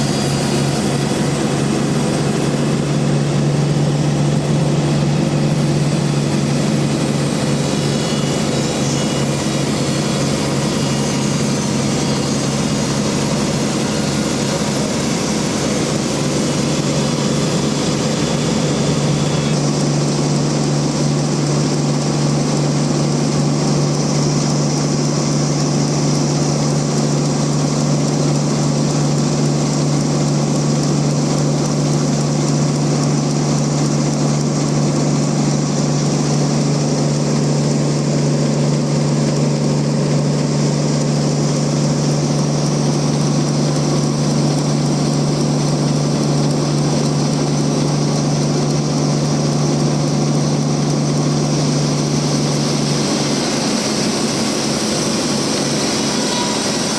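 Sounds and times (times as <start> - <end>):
band saw humming: 0.0 - 56.9.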